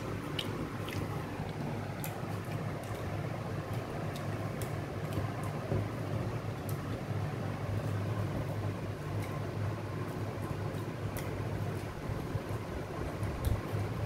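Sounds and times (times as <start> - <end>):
low mechanical hum: 0.0 - 14.0
people eating by hand: 0.0 - 14.0.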